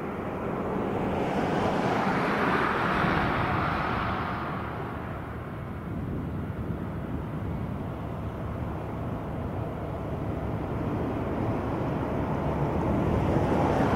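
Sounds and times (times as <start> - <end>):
propeller plane engine droning: 0.0 - 13.9.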